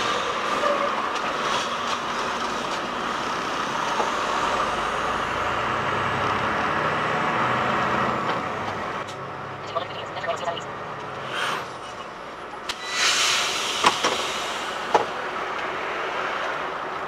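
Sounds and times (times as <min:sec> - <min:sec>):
diesel truck engine: 0:00.0 - 0:17.0
road and cab noise: 0:00.0 - 0:17.0.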